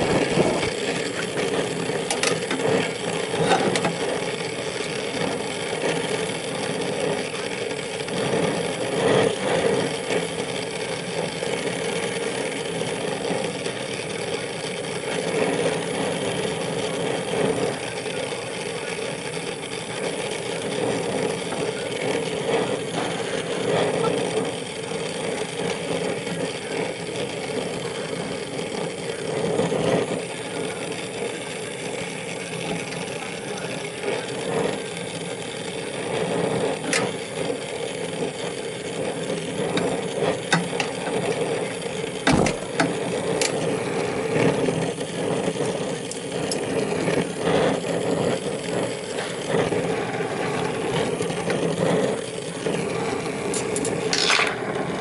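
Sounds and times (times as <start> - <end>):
motor-driven machine humming: 0.0 - 55.0.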